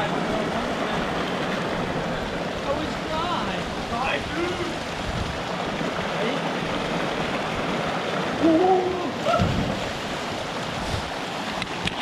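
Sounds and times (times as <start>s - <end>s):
creek and waterfall rushing: 0.0s - 12.0s.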